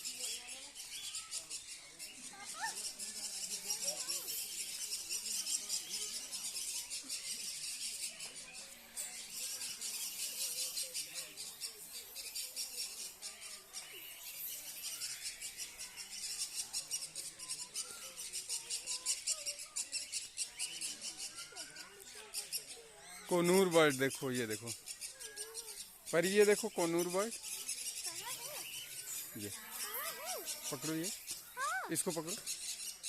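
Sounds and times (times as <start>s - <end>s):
caged birds chirping: 0.0s - 33.0s.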